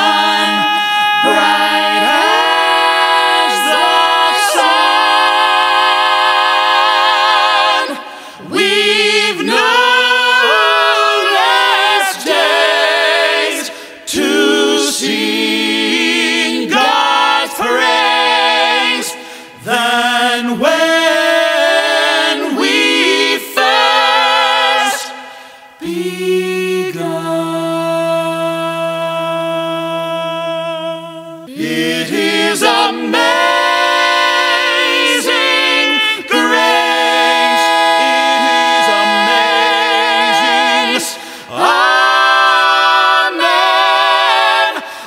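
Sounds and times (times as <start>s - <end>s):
vocal quartet singing harmony: 0.0s - 45.0s.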